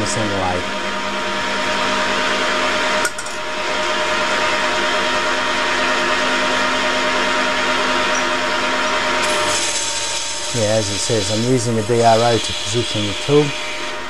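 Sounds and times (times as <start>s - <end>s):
lathe humming: 0.0s - 14.0s.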